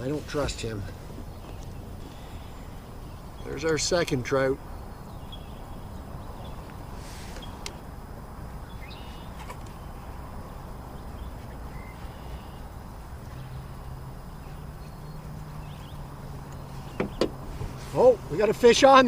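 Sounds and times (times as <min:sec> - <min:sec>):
low outdoor rumble: 0:00.0 - 0:19.0
faint bird chirps: 0:00.7 - 0:07.8, 0:08.5 - 0:17.2.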